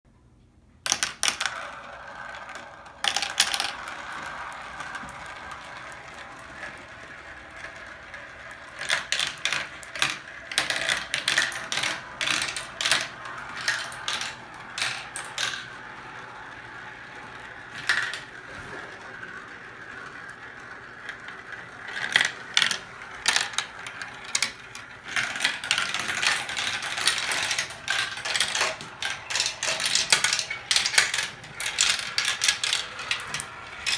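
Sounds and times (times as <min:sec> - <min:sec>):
marbles rolling and clicking on track: 0:00.9 - 0:33.9.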